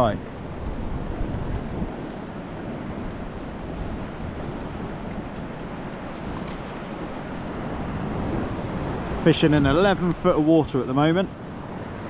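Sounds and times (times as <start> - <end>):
wind rumble on microphone: 0.0 - 10.7
water washing around kayak: 0.0 - 12.0.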